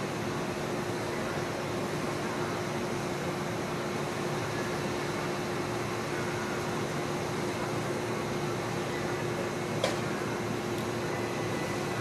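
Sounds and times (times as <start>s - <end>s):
train wash mechanical hum: 0.0s - 12.0s.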